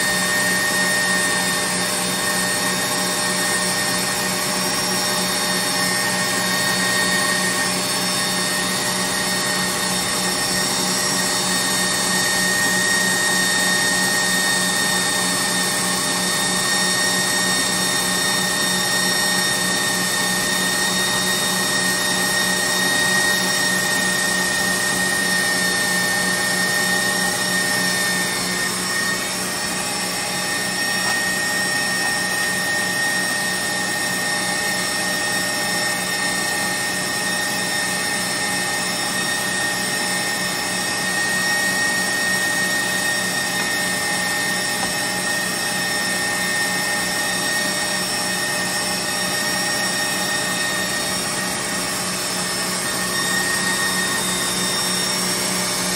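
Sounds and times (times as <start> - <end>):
stand mixer motor whining: 0.0 - 55.9.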